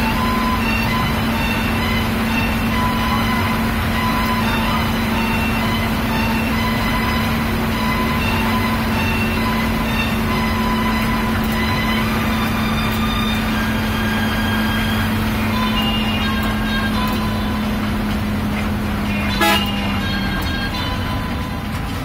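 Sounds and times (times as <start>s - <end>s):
bus engine droning: 0.0s - 22.0s
road and wind noise: 0.0s - 22.0s.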